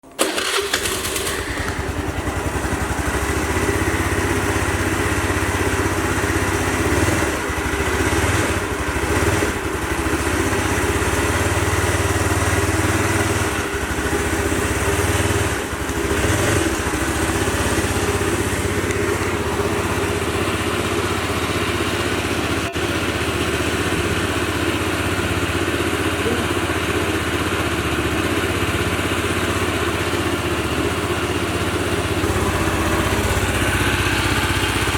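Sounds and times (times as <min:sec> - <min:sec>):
scooter engine idling: 0:00.0 - 0:34.9.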